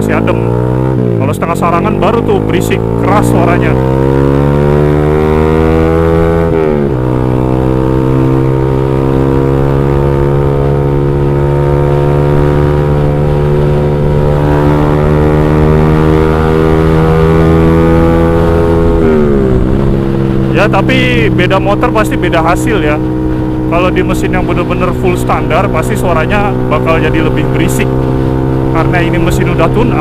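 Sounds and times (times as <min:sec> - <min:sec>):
motorcycle exhaust note: 0:00.0 - 0:30.0.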